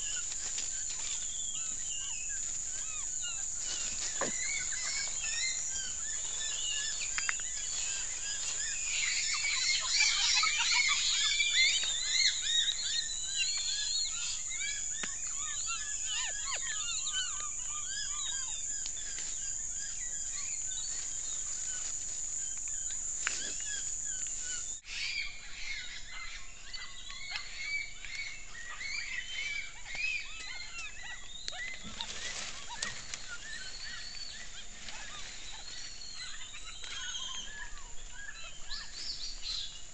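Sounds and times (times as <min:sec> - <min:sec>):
monkeys chirping: 0:00.0 - 0:39.8.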